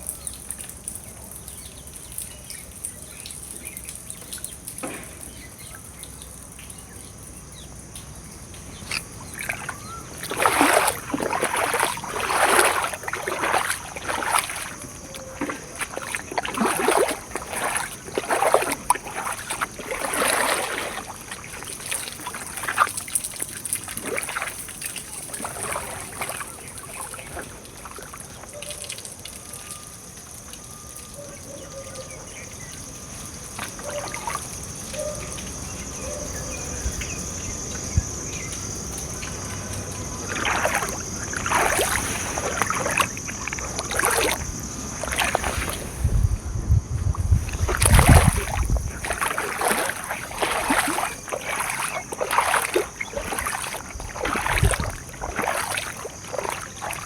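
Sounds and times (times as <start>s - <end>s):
water splashing: 0.0s - 30.7s, 32.2s - 57.0s
water trickling: 0.0s - 57.0s.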